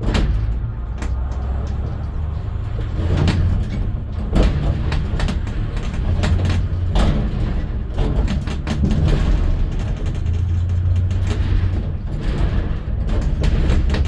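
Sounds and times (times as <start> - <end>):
sharp knocks and rattles: 0.0 - 14.0
vehicle engine and road rumble: 0.0 - 14.0.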